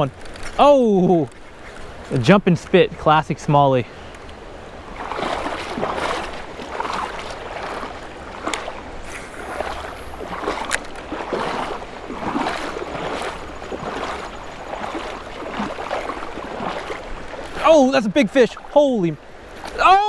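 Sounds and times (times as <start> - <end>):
river water rushing and lapping: 0.0 - 20.0.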